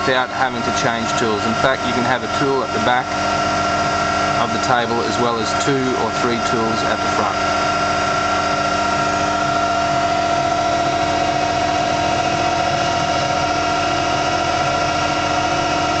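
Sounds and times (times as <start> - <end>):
lathe machine whine: 0.0 - 16.0.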